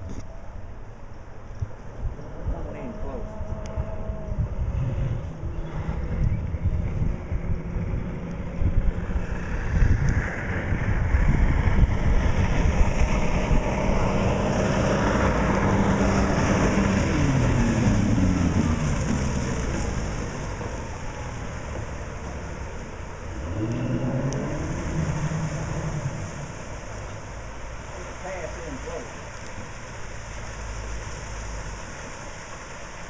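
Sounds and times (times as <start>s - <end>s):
outboard motor boat passing by: 0.0s - 33.0s.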